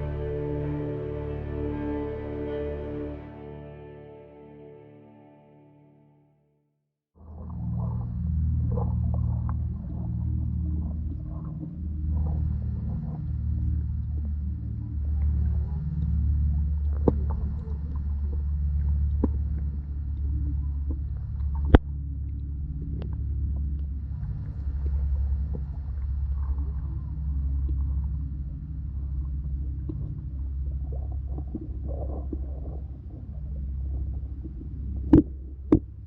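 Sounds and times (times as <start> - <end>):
muffled underwater rumble: 0.0 - 3.3, 7.2 - 36.0.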